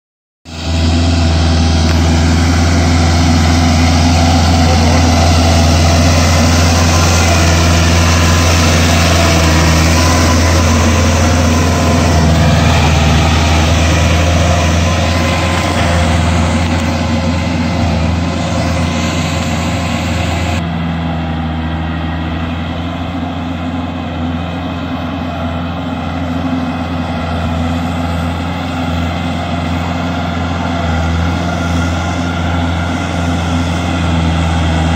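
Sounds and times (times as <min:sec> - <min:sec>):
tractor diesel engine running: 0:00.4 - 0:34.9.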